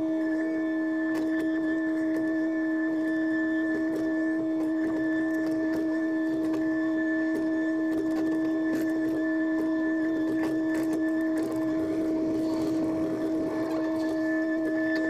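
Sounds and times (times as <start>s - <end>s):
excavator engine with hydraulic whine: 0.0s - 15.0s.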